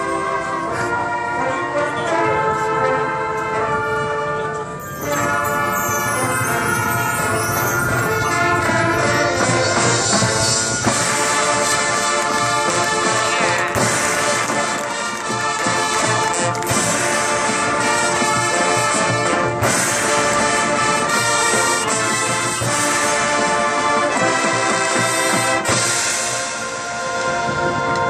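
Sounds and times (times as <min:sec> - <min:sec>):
brass playing: 0:00.0 - 0:28.0
marching drums: 0:05.0 - 0:28.0.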